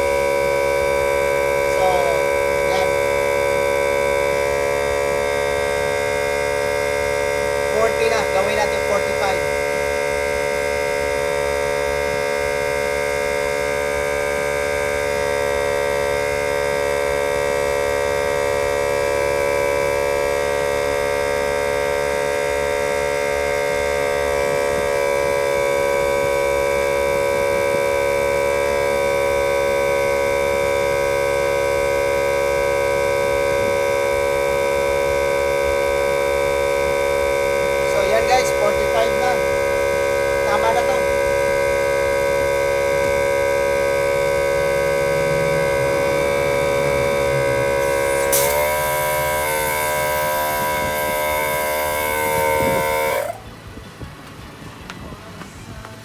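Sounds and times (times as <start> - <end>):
tyre inflator motor whine: 0.0 - 55.2.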